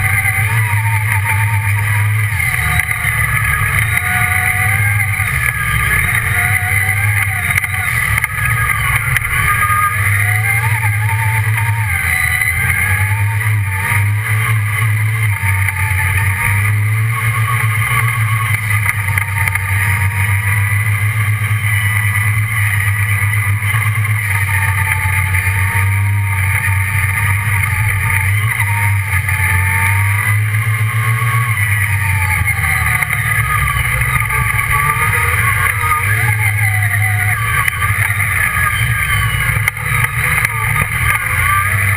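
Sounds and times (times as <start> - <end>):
buggy engine revving: 0.0 - 41.9.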